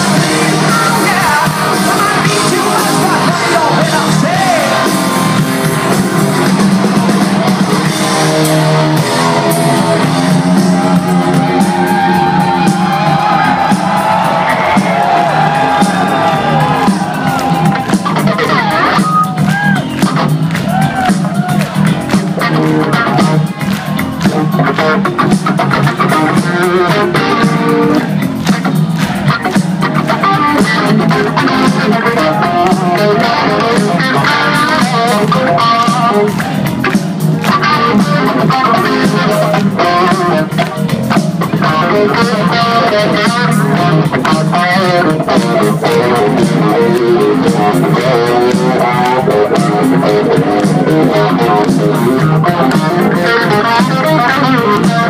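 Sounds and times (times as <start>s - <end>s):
electric guitar bent notes: 0.0s - 55.0s
rock band playing loudly: 0.0s - 55.0s.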